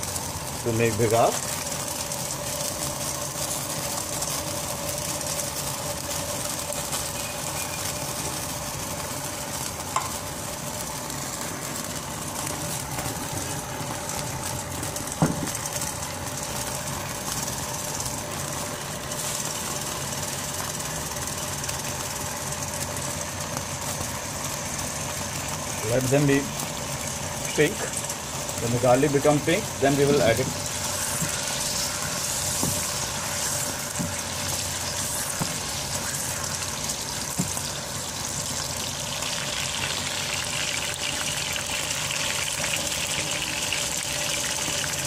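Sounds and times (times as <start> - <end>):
garlic sizzling in hot oil: 0.0 - 45.0.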